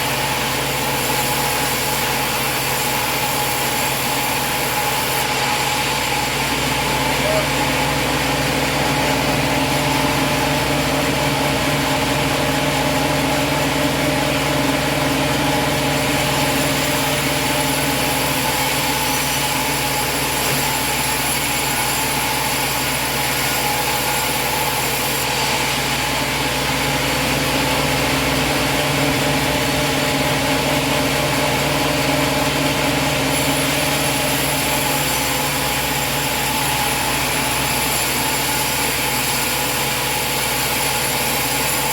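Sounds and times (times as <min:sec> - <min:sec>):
engine droning steadily: 0:00.0 - 0:21.3, 0:24.3 - 0:41.9.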